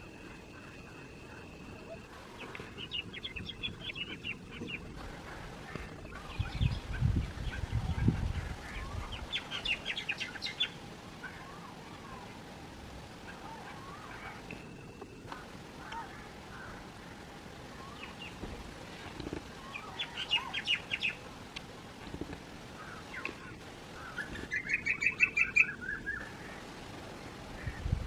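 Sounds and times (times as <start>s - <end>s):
rapid bird trill: 0.0s - 27.9s
songbirds chirping: 0.0s - 28.0s.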